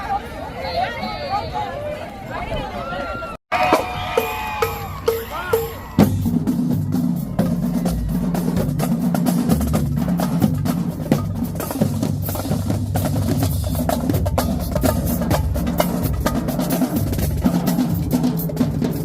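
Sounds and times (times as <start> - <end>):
snare drum strokes and rolls: 3.5 - 19.0
tenor drums: 3.5 - 19.0
bass drums: 3.6 - 19.0.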